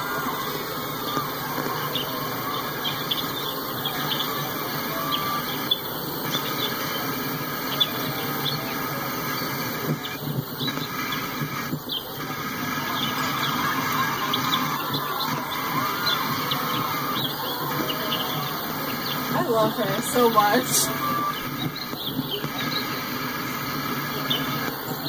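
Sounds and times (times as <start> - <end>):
high wheel squeals: 0.0 - 25.0.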